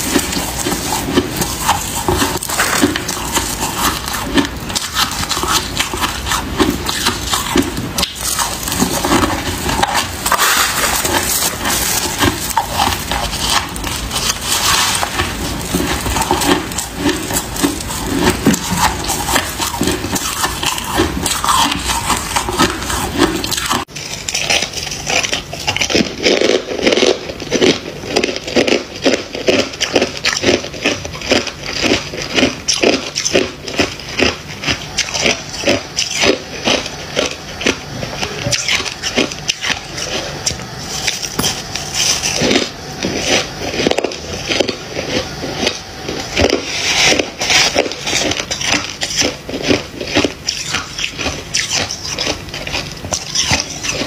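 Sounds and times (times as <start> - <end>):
frost chewed off a spoon: 0.0 - 54.0
frost crunching and crackling: 0.0 - 54.0.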